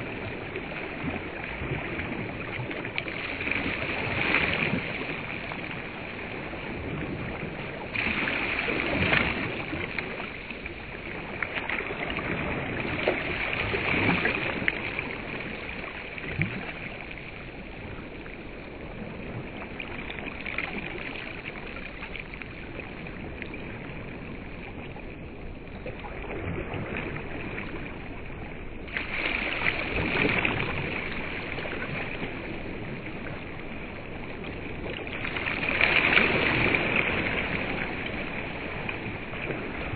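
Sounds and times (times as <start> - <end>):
small waves washing onto shore: 0.0 - 39.9.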